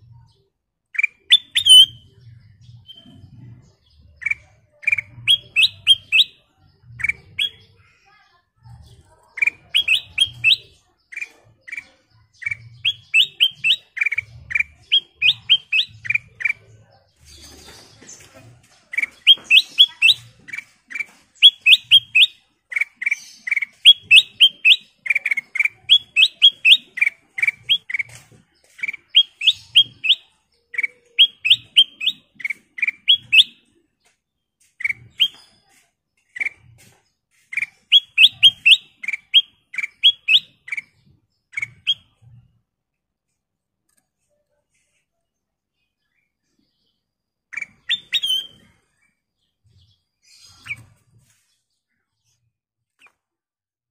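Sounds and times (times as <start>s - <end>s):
bird chirping in rising phrases: 0.0s - 34.0s, 34.6s - 42.6s, 45.3s - 53.2s.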